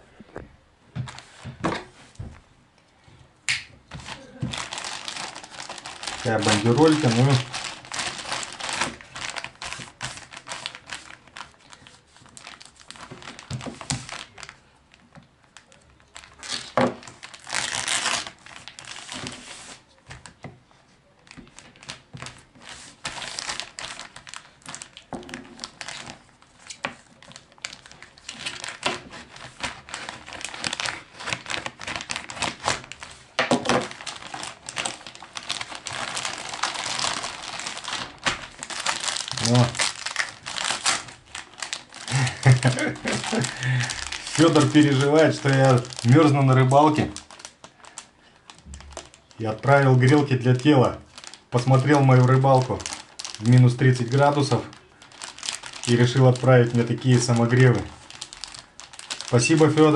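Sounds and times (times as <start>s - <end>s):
plastic packaging crinkling: 1.0s - 2.2s, 3.8s - 20.4s, 21.2s - 59.9s
plastic strip tearing: 3.6s - 14.6s, 15.6s - 20.4s, 21.3s - 59.9s.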